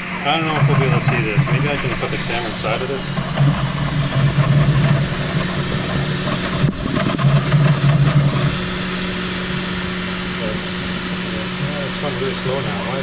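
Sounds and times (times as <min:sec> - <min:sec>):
fan hum: 0:00.0 - 0:13.0
stepper motors buzzing: 0:00.0 - 0:13.0.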